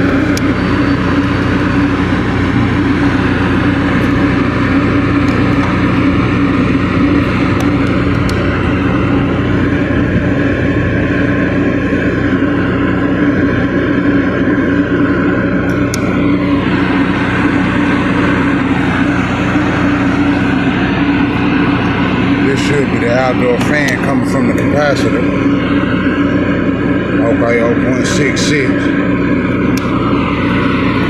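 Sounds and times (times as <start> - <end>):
air conditioner humming: 0.0 - 31.0.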